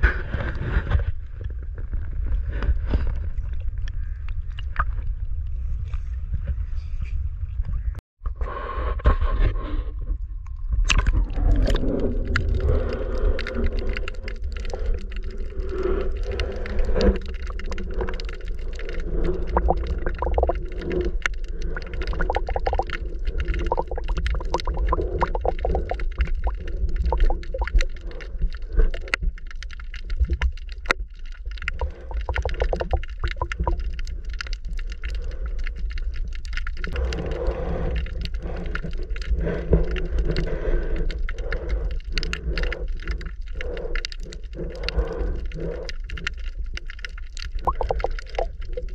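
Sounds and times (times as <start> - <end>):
underwater rumble with clicks: 0.0 - 48.9.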